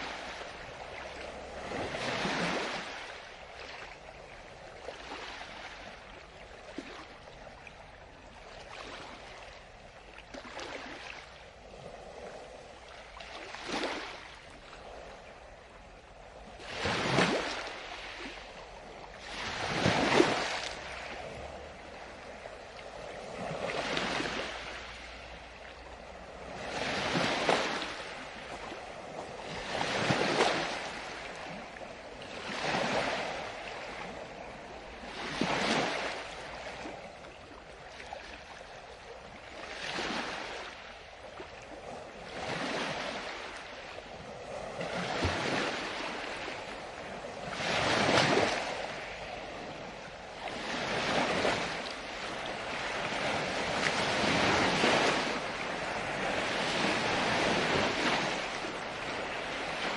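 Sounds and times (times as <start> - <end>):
ocean waves breaking on a beach: 0.0 - 59.9.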